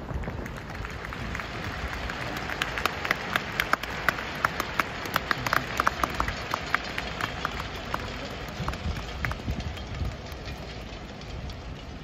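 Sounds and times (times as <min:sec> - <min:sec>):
crowd clapping: 0:00.0 - 0:11.6
crowd noise hum: 0:00.0 - 0:12.0.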